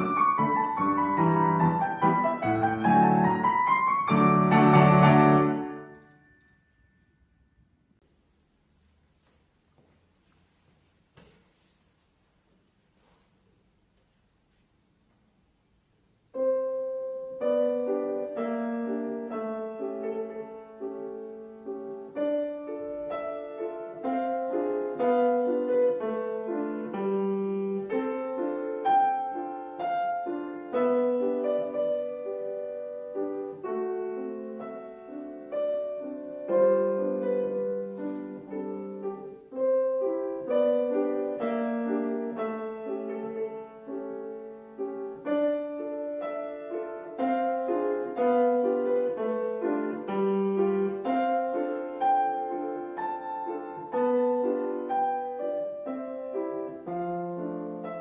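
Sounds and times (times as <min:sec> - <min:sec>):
piano piece: 0:00.0 - 0:08.9, 0:13.6 - 0:58.0.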